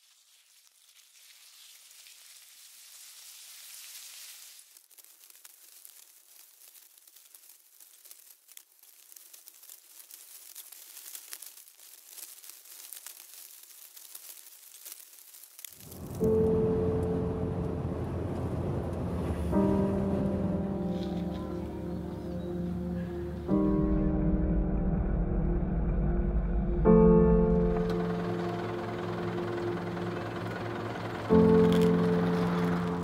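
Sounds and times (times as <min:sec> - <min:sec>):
high-pitched crackling hiss: 0:00.0 - 0:24.2, 0:26.8 - 0:33.0.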